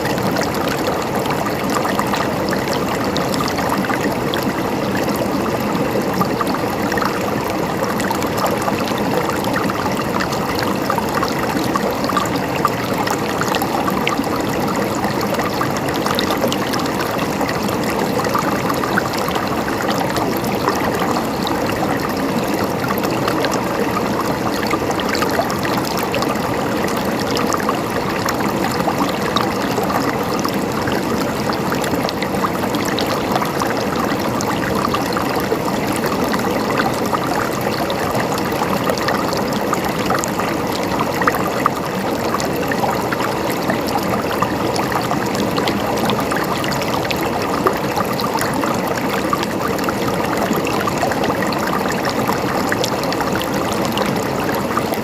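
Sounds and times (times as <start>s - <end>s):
river water rushing and trickling: 0.0s - 55.0s.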